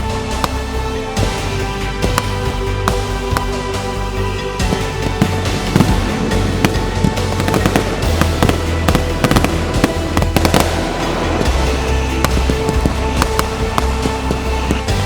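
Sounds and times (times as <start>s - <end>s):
background music with bass: 0.0s - 15.0s
fireworks bangs and crackles: 0.0s - 15.0s.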